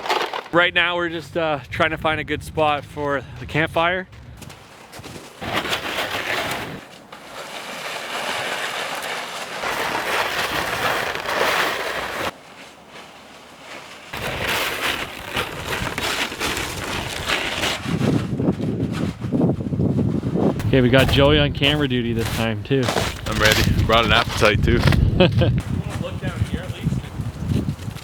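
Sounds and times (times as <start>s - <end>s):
footsteps crunching on rough ground: 4.1s - 28.0s.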